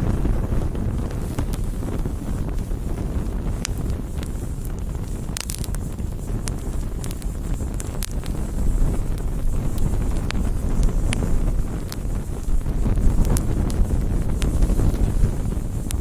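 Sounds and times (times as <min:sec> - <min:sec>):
burning wood crackling and popping: 0:00.0 - 0:16.0
campfire low rumble: 0:00.0 - 0:16.0.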